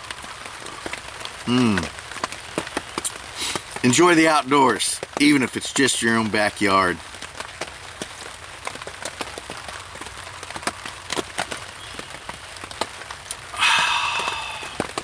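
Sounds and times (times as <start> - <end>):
rain on a tarp: 0.0 - 15.0.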